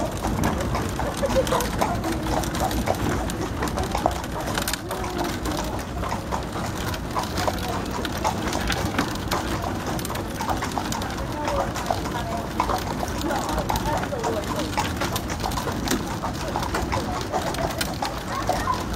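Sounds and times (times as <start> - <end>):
buggy wheels rumbling: 0.0 - 18.9
hooves clip-clopping on road: 0.0 - 18.9.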